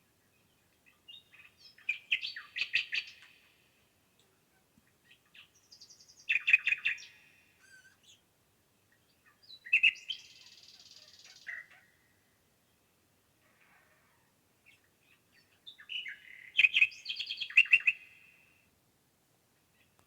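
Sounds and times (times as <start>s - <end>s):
songbirds singing: 0.1s - 18.7s.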